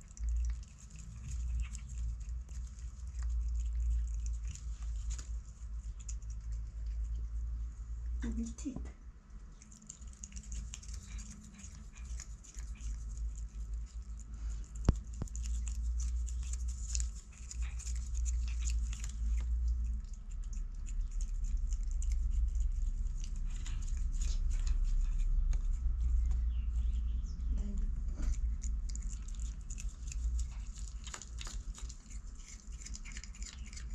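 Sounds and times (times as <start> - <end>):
cat chewing leaves: 0.0 - 8.5, 9.1 - 27.2, 27.8 - 33.9
steady low rumble: 0.0 - 33.9.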